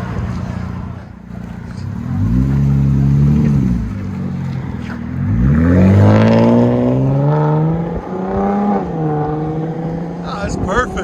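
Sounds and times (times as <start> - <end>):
engine exhaust revving: 0.0 - 11.0.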